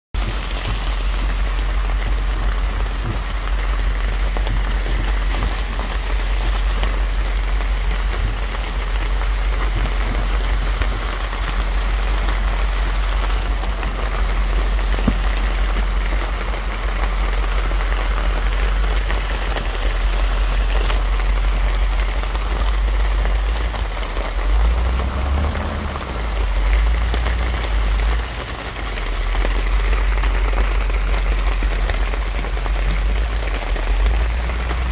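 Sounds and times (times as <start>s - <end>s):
farm vehicle engine rumble: 0.1s - 34.9s.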